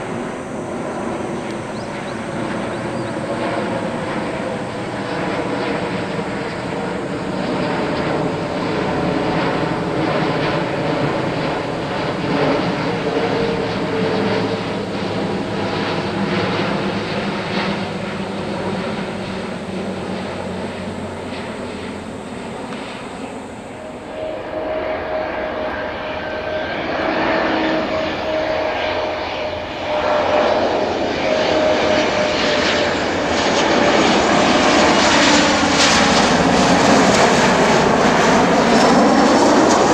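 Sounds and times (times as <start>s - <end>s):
jet airliner rumble: 0.0s - 39.9s
jet engine whine: 0.0s - 39.9s.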